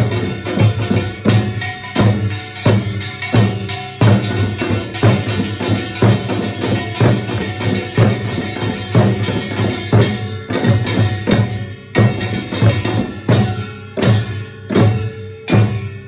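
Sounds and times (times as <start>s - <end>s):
small gong ringing: 0.0s - 15.8s
drums beating: 0.0s - 16.0s.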